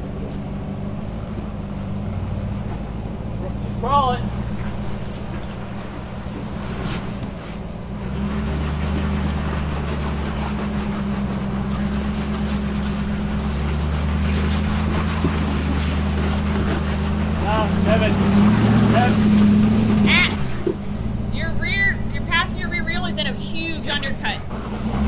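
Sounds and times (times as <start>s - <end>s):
car engine running under load: 0.0s - 25.0s.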